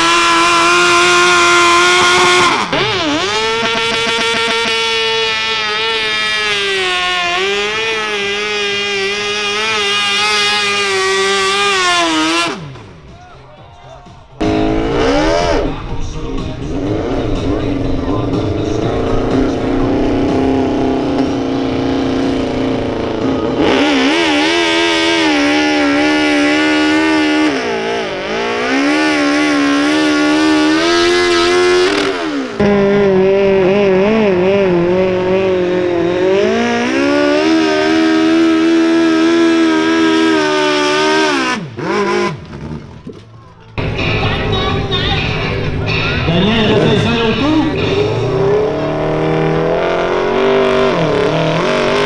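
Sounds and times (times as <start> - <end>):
tractor engine revving high: 0.0 - 13.4, 14.3 - 43.2, 43.8 - 52.0.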